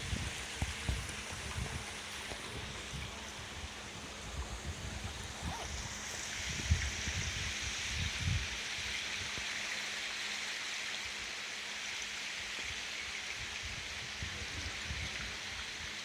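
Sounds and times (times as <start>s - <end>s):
water rushing along ship hull: 0.0s - 16.0s.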